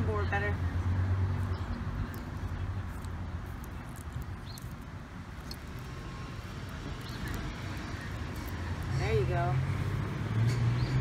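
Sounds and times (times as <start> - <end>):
hands pressing bulbs into soil: 1.3 - 11.0.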